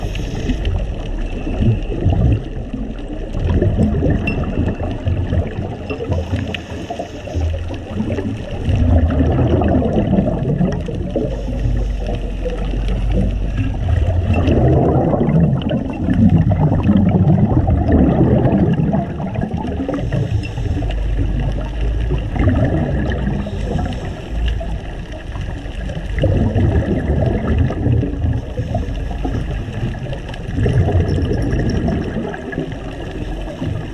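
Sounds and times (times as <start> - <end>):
diver's bubbles gurgling underwater: 0.0 - 33.9
faint steady hum: 0.0 - 33.9.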